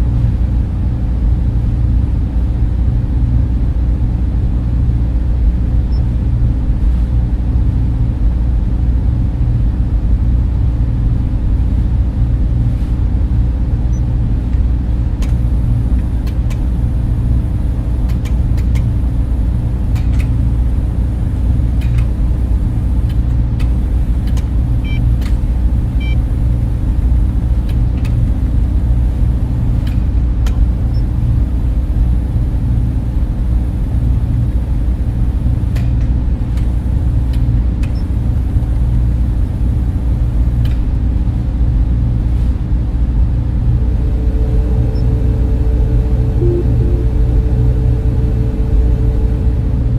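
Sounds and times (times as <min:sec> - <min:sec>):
cooling fans droning: 0:00.0 - 0:49.9.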